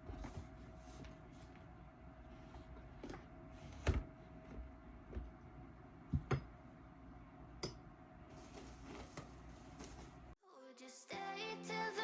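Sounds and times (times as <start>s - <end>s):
faint steady hum: 0.0s - 10.4s.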